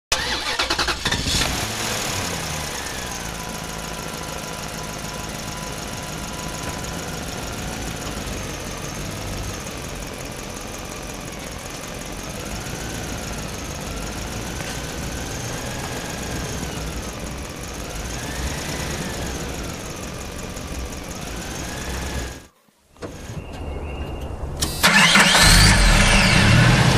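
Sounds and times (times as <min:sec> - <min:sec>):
engine rumble with whine: 0:00.1 - 0:26.9.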